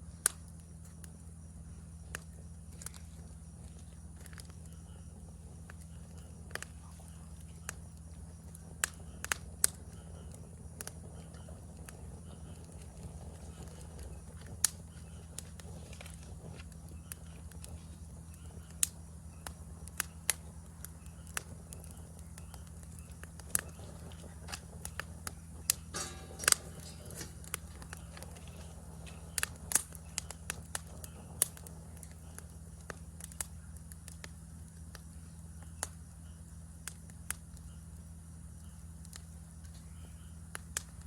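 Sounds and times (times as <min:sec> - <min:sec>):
campfire crackling and popping: 0:00.0 - 0:41.0
low background hum: 0:00.0 - 0:41.0.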